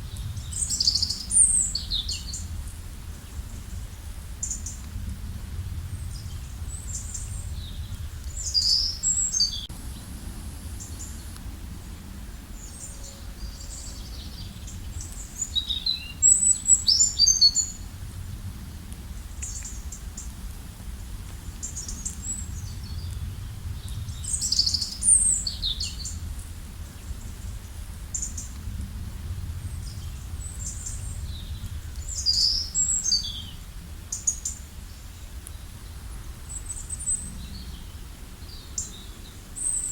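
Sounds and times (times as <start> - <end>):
songbird singing: 0.0 - 20.4, 21.0 - 39.9
steady low rumble: 0.0 - 39.9.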